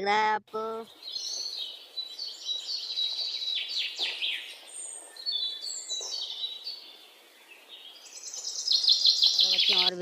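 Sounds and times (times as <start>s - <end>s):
birds chirping and calling: 0.1s - 10.0s.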